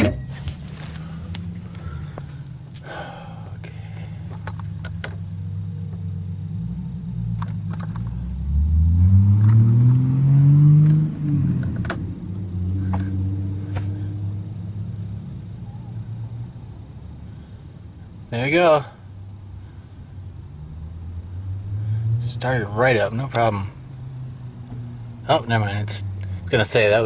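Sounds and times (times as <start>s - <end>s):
engine idling and revving: 0.0s - 27.0s.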